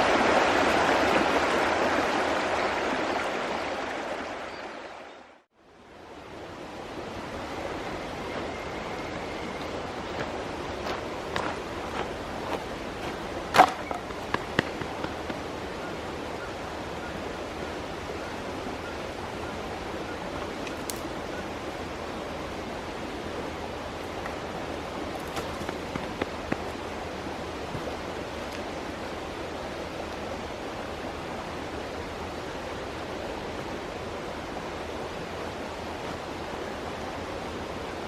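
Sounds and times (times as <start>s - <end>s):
mountain stream rushing: 0.0s - 38.0s.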